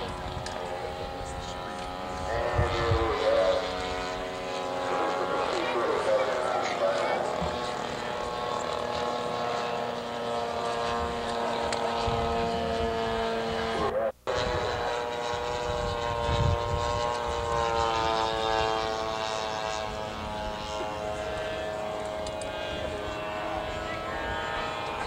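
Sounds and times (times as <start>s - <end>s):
model airplane engine droning: 0.0s - 25.0s.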